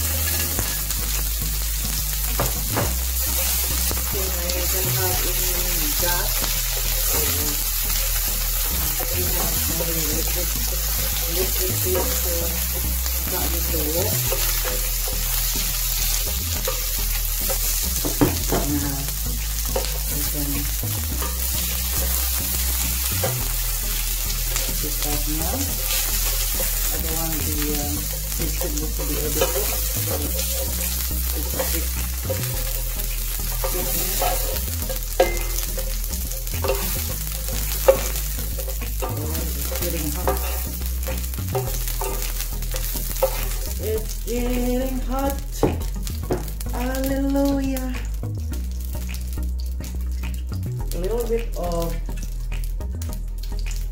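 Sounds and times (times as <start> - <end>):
vegetables sizzling in frying pan: 0.0 - 53.9.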